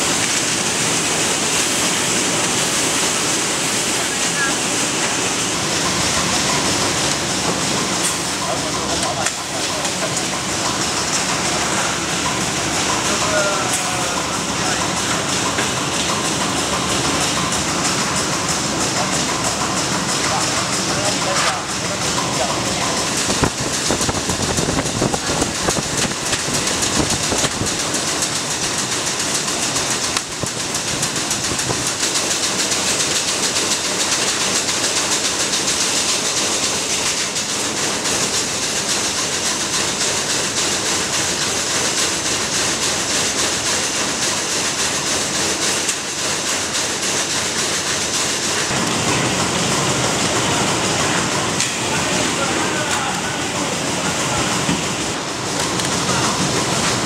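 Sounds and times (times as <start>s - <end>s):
factory machinery rattling: 0.0s - 57.0s.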